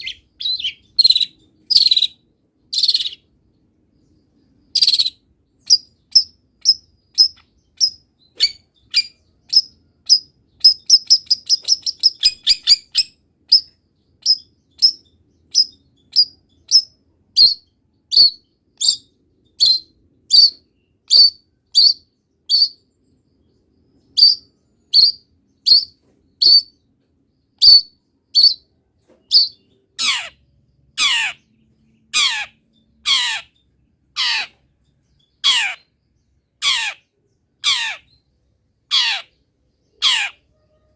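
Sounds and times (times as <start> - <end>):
harsh falling bird calls: 0.0 - 3.4, 4.5 - 26.9, 27.6 - 40.9
bird singing high chirps: 0.0 - 40.9.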